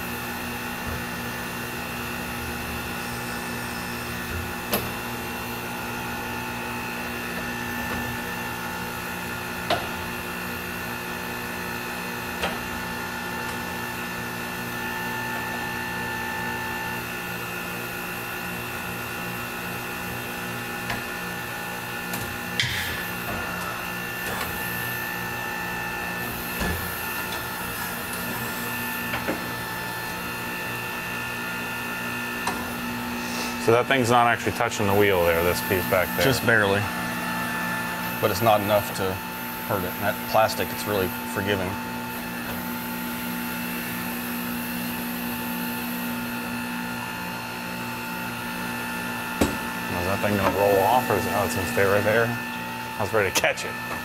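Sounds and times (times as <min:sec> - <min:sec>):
tire changer motors whirring: 0:00.2 - 0:54.0.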